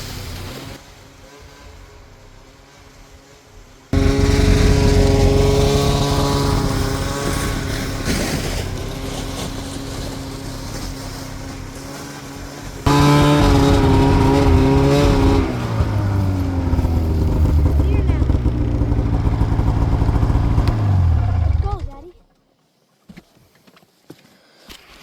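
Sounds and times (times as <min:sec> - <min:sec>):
snowmobile engine running: 0:00.0 - 0:22.2.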